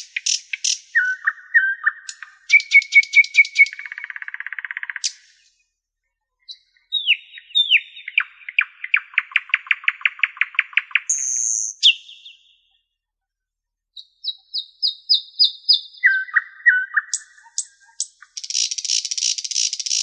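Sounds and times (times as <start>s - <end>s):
songbird singing: 0.0s - 5.8s, 6.4s - 12.8s, 14.0s - 20.0s.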